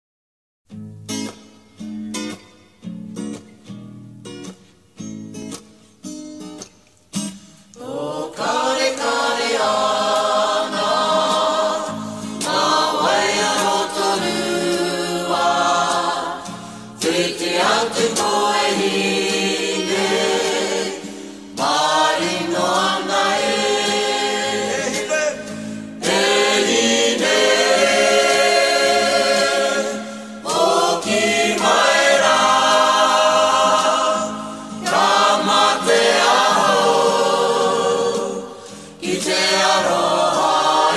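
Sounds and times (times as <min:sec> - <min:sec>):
choir singing: 0:07.8 - 0:40.9.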